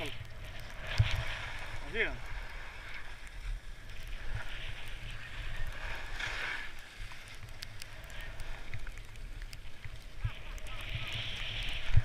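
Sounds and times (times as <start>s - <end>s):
skis hissing and scraping on snow: 0.0s - 12.0s.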